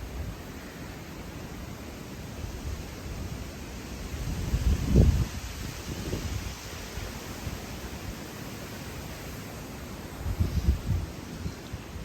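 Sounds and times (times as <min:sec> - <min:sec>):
wind and rain rushing: 0:00.0 - 0:12.0.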